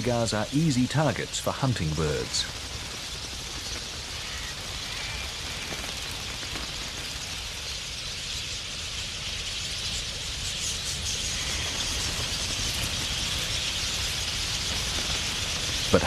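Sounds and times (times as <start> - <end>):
flock of budgerigars chirping: 0.0 - 16.0.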